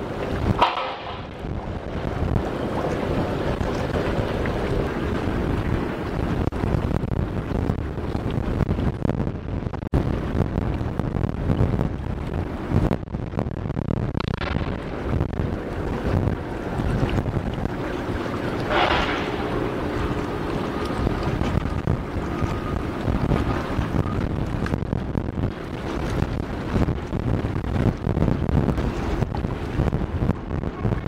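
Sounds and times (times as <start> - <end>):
boat engine drone: 0.0 - 31.0
rushing water: 0.0 - 31.0
wind buffeting microphone: 0.0 - 31.0.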